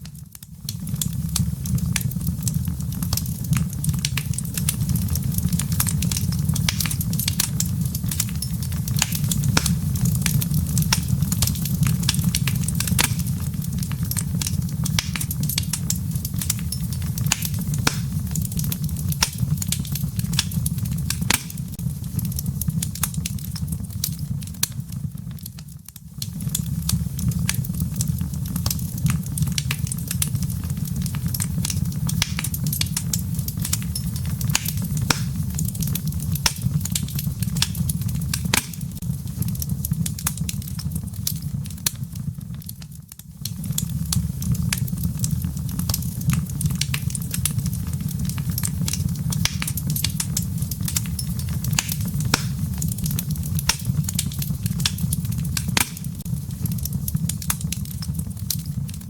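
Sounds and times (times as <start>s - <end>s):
embers crackling and popping: 0.0s - 59.0s
fire rumbling: 0.0s - 59.0s.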